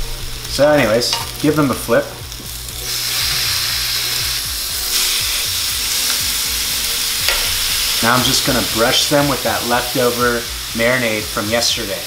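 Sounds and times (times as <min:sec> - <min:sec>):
chicken sizzling on a grill pan: 0:00.0 - 0:12.0.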